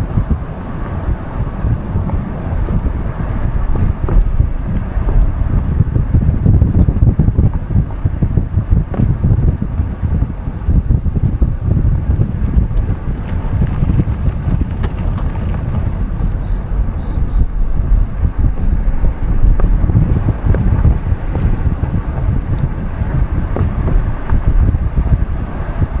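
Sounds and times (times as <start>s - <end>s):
car driving rumble: 0.0s - 26.0s
wind buffeting microphone: 0.0s - 26.0s.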